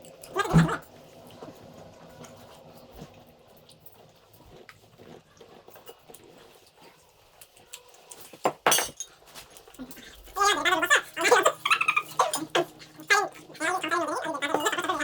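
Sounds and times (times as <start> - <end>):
people chewing and eating: 0.0 - 15.0.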